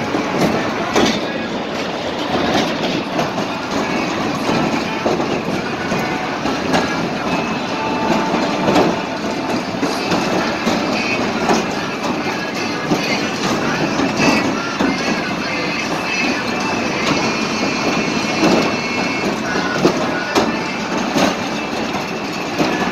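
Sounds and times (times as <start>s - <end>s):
amusement ride rumbling: 0.0s - 22.9s
ride cars clattering: 0.0s - 22.9s.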